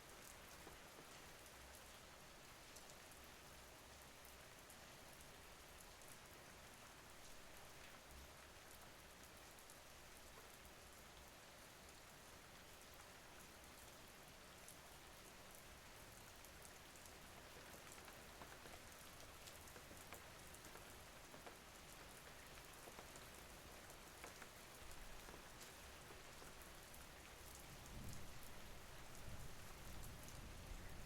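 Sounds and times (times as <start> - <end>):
faint steady rain: 0.0 - 31.0.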